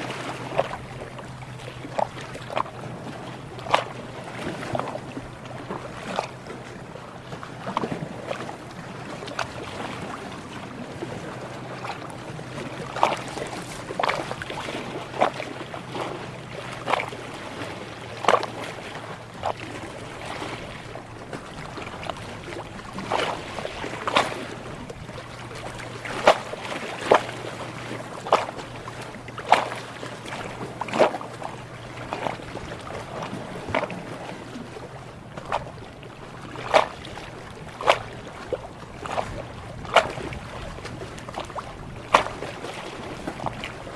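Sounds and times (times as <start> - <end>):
small waves lapping: 0.0 - 43.9.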